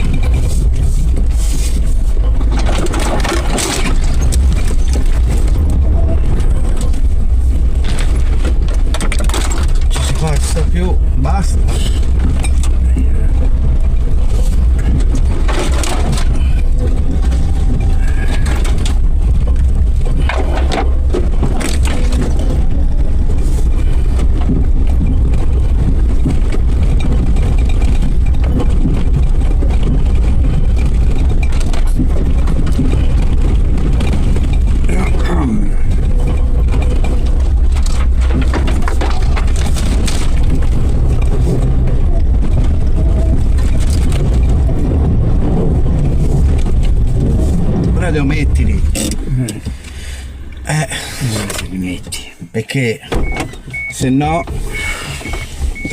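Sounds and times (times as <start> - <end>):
body knocks and rattles: 0.0 - 55.9
vehicle engine rumble: 0.0 - 55.9.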